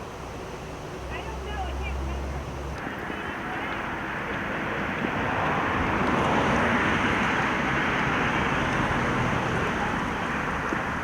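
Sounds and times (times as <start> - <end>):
car tyre and engine noise: 0.0 - 11.0.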